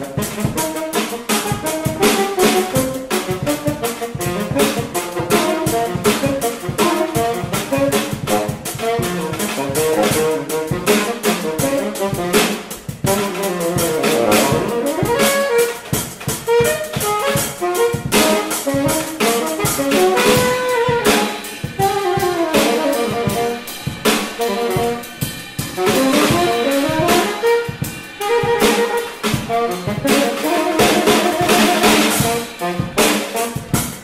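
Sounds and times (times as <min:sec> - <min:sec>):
drum kit: 0:00.0 - 0:34.0
saxophone melody: 0:00.0 - 0:34.0.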